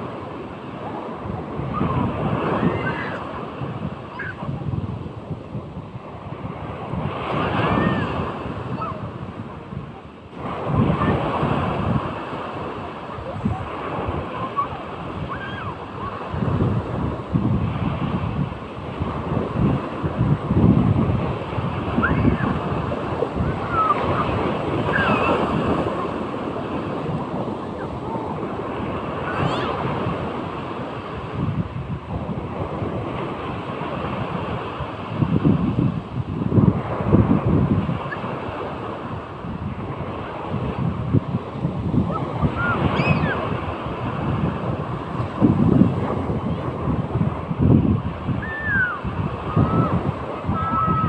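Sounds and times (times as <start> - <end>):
sea waves breaking in surf: 0.0 - 51.0
wind buffeting microphone: 0.0 - 51.0.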